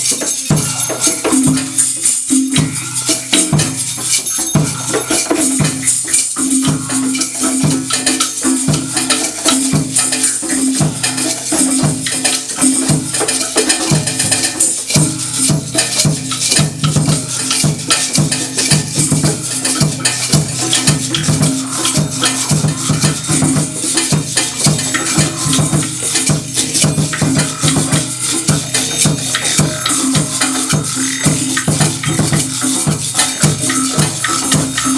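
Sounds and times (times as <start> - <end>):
pitched drum strokes: 0.0 - 34.9
shaker and tambourine hiss: 0.0 - 34.9.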